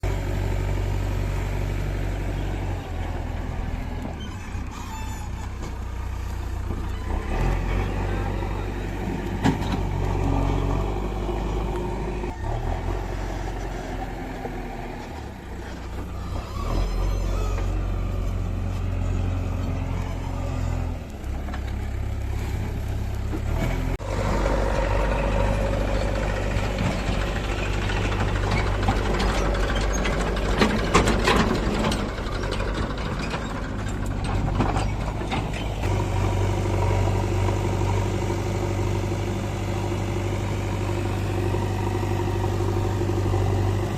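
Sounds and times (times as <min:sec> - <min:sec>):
diesel engines running: 0:00.0 - 0:43.9.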